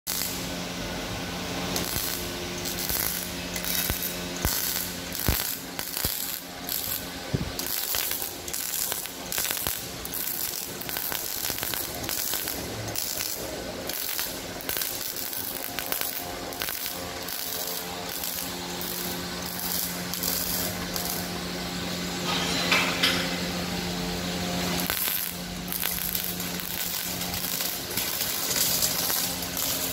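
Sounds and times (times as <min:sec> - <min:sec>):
arc welding crackling and hissing: 0:00.1 - 0:29.9
electrical hum: 0:00.1 - 0:29.9.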